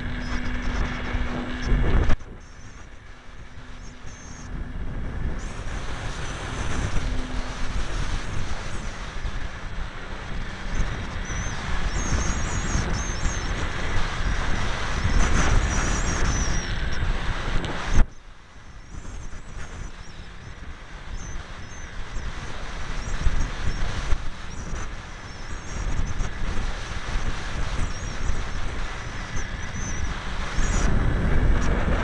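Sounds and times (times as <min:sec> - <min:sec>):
high motor whine: 0:00.0 - 0:32.0
wind buffeting microphone: 0:00.0 - 0:32.0.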